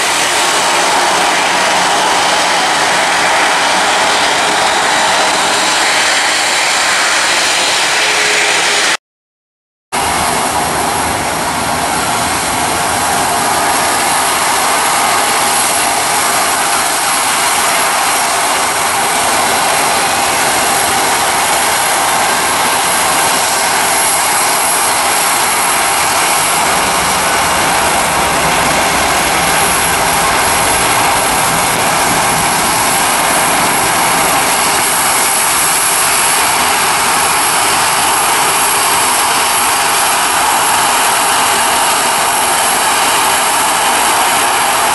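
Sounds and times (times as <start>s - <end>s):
jet engines roaring: 0.0s - 9.0s, 10.0s - 44.9s
thin high engine whine: 0.0s - 9.0s, 10.0s - 44.9s.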